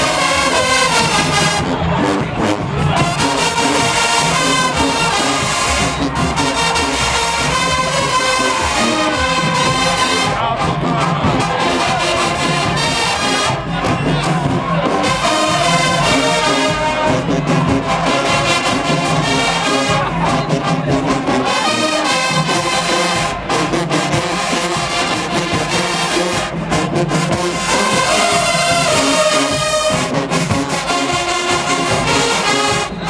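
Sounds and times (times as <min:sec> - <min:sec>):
brass section playing: 0:00.0 - 0:33.0
crowd: 0:00.0 - 0:33.0
drums: 0:00.0 - 0:33.0.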